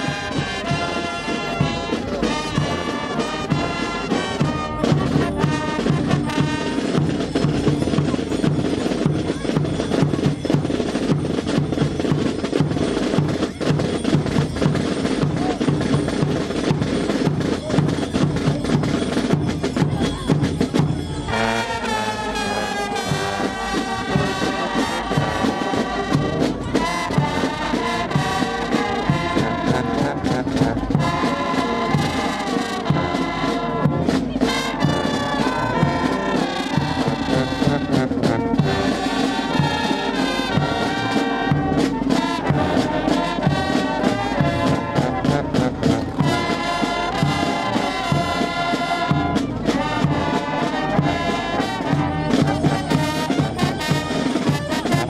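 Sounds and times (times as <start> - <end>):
brass band playing: 0.0 - 55.0
drumming: 0.0 - 55.0.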